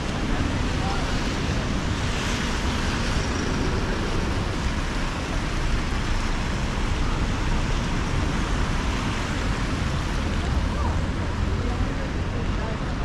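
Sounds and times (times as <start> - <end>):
falling rain: 0.0 - 13.0.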